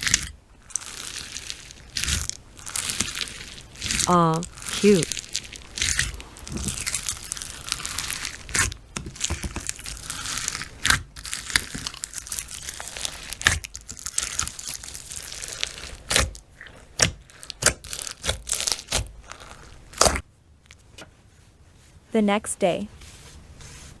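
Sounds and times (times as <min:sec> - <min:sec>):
crinkling and tearing: 0:00.0 - 0:21.1.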